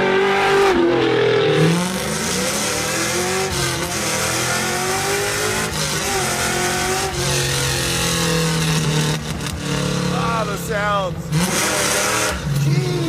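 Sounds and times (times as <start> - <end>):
v eight engine revving: 0.0 - 13.0.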